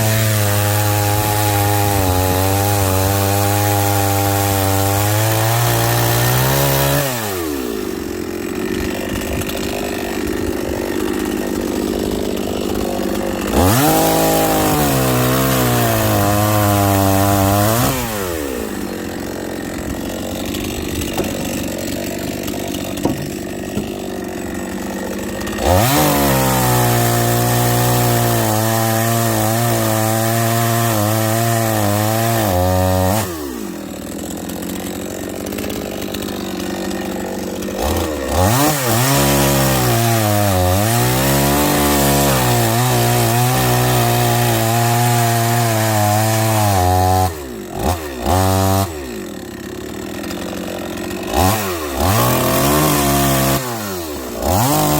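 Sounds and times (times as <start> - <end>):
chainsaw cutting logs: 0.0 - 54.9.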